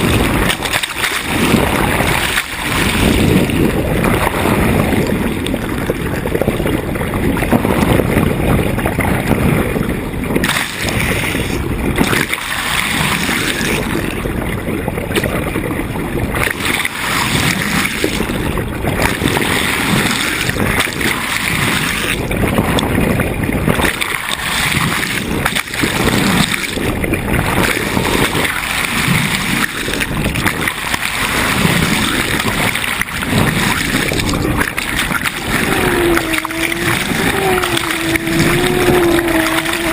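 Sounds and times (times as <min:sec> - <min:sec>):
water rushing along boat hull: 0:00.0 - 0:39.9.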